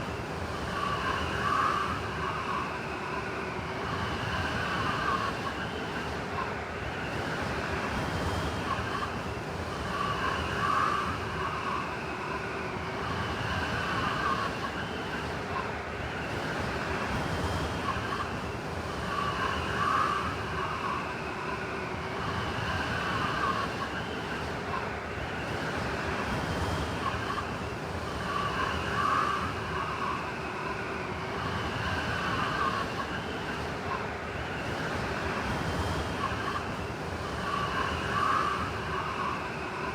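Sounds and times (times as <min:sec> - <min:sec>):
howling blizzard wind: 0:00.0 - 0:39.9.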